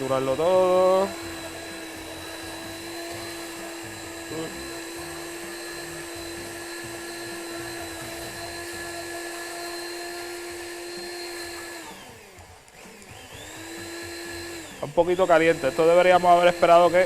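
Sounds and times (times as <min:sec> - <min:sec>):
stick blender motor whining: 0:00.0 - 0:17.0.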